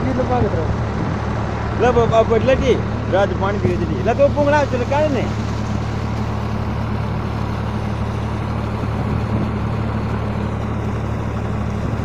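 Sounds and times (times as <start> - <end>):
water pump humming: 0.0 - 12.0.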